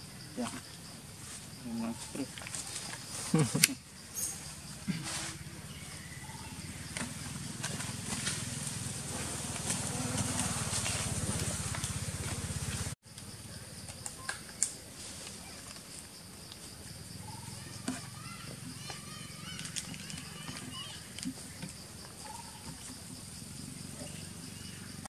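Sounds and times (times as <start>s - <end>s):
high insect buzz: 0.0s - 25.0s.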